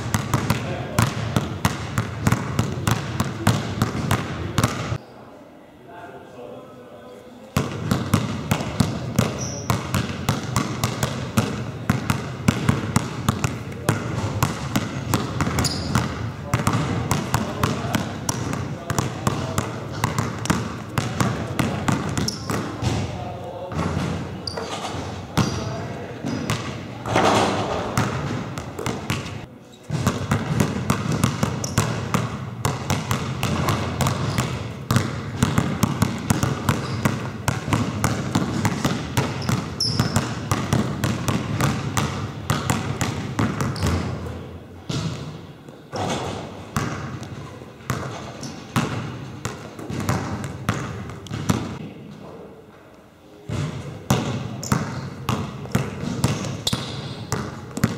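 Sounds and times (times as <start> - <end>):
basketball bouncing on wooden floor: 0.0 - 5.0, 7.6 - 25.6, 26.2 - 44.3, 44.9 - 51.8, 53.5 - 57.9.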